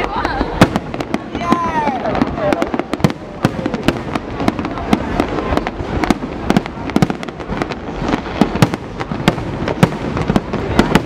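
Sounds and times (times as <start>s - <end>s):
fireworks crackle and rumble: 0.0s - 11.0s.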